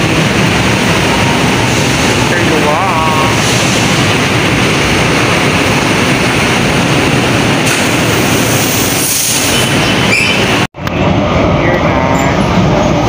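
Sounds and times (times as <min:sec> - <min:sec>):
train rumble and hiss: 0:00.0 - 0:13.0.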